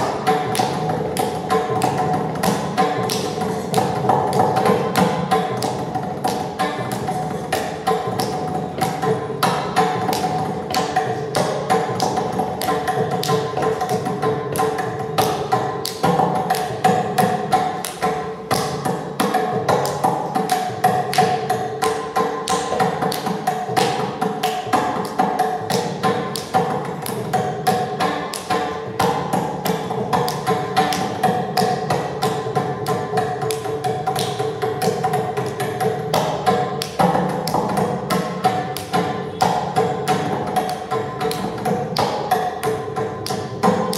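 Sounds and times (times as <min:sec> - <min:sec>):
mridangam drum strokes: 0:00.0 - 0:43.9.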